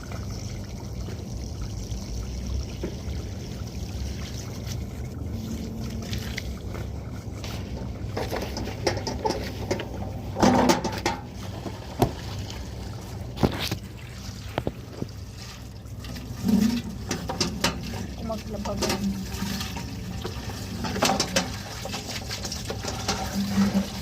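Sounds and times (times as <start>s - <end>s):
steady low hum: 0.0s - 21.7s
water running and splashing: 0.0s - 24.0s.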